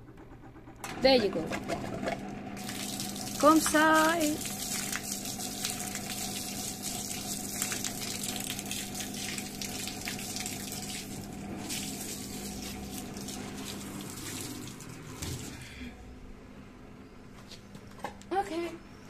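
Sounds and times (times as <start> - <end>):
water rushing in washing machine: 0.0 - 15.7
washing machine hum: 0.0 - 19.0.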